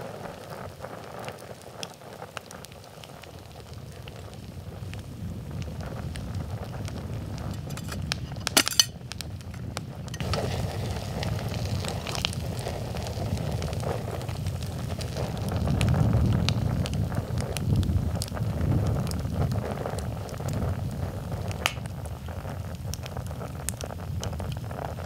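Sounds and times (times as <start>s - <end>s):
campfire crackling and popping: 0.0s - 25.0s
wind rumble on microphone: 3.0s - 8.4s, 9.0s - 25.0s.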